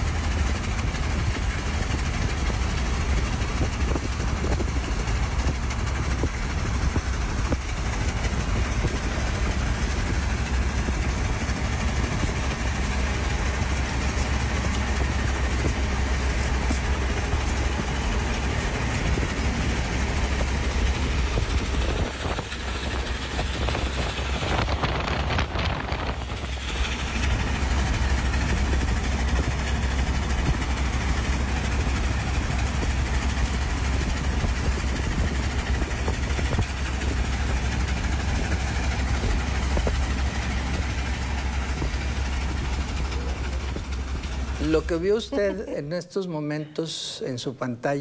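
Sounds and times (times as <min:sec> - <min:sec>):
steam train rolling past: 0:00.0 - 0:45.9.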